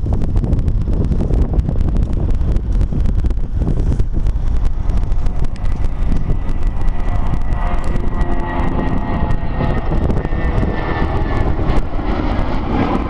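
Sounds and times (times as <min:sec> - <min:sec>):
engine whine: 0:00.0 - 0:13.0
jet engines rumbling: 0:00.0 - 0:13.0.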